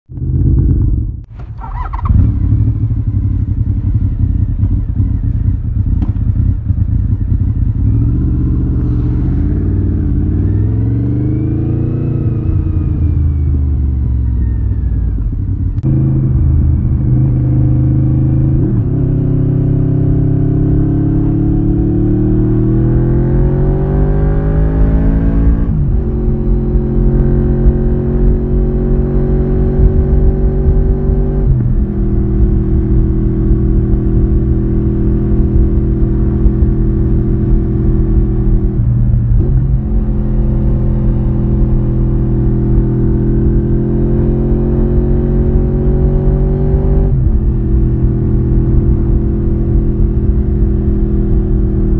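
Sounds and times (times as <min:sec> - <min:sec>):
motorcycle engine and exhaust: 0:00.1 - 0:51.9
wind noise rumbling: 0:00.1 - 0:51.9.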